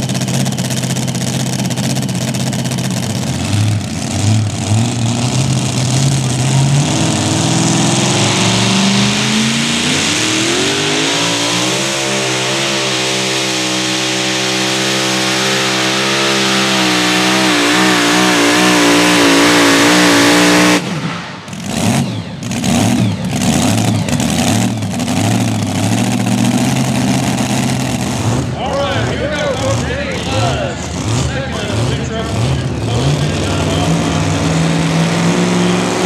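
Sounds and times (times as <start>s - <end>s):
supercharged truck engine revving: 0.0s - 36.0s.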